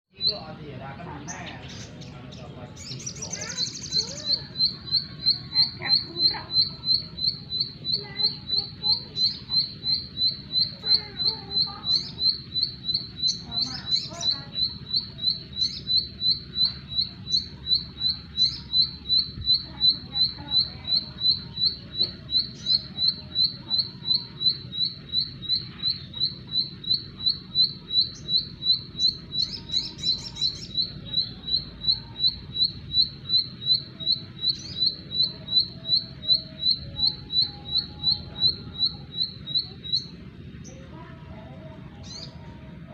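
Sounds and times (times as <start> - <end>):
faint bird chirps: 0.1 - 42.9.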